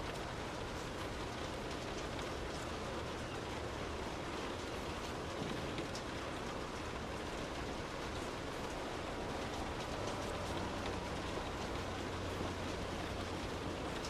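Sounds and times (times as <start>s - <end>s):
raindrops ticking: 0.0s - 14.0s
soft steady rain: 0.0s - 14.0s.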